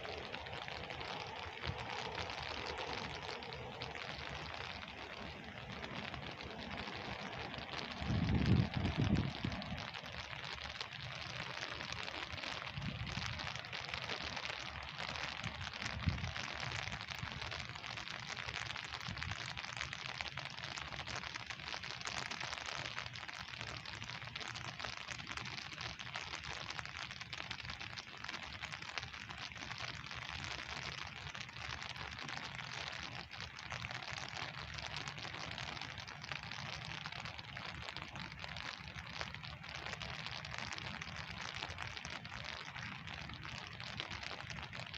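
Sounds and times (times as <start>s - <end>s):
pouring rain: 0.0s - 44.9s.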